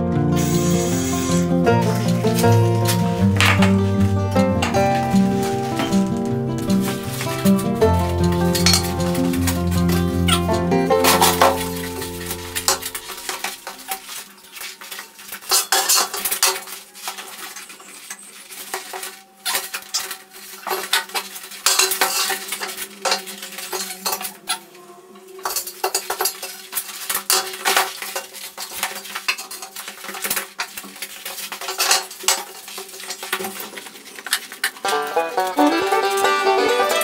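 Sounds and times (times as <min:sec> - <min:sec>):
steel tubes clanking and scraping: 0:00.4 - 0:24.5, 0:25.4 - 0:37.0.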